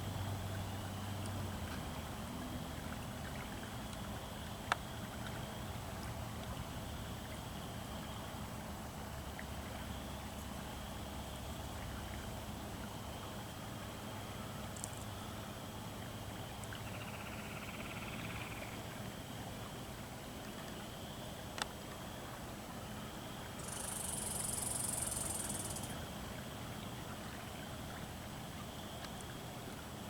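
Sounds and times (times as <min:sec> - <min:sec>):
low outdoor rumble with hiss: 0:00.0 - 0:30.0.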